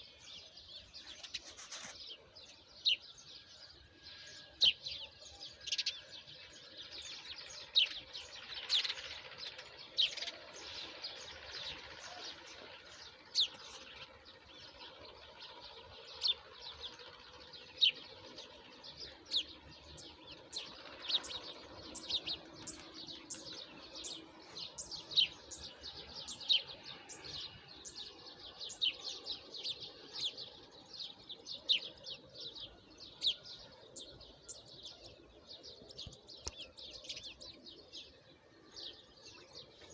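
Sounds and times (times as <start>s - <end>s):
faint bird calls: 0.0s - 39.9s
small songbirds chirping: 0.0s - 39.9s.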